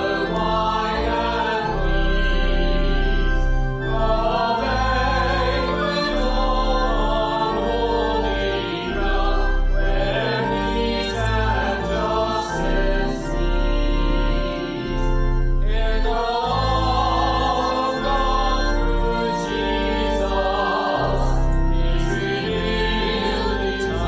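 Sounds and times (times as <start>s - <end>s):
sustained chords with deep bass: 0.0s - 24.0s
voices singing a hymn: 0.0s - 24.0s.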